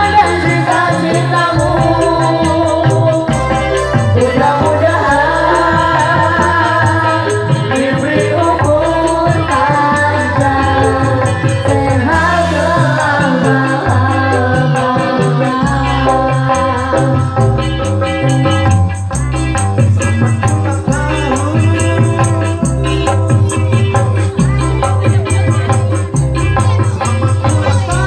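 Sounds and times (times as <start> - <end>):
live band playing: 0.0 - 28.0
rattling percussion beat: 0.0 - 28.0
voices singing together: 0.0 - 28.0.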